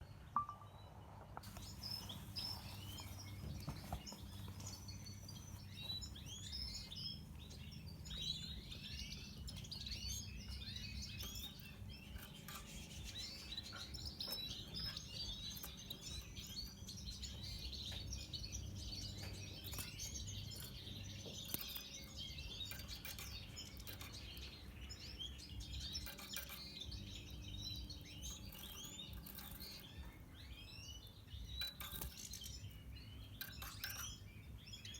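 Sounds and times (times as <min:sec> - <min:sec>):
birds twittering and chirping: 0:00.0 - 0:34.9.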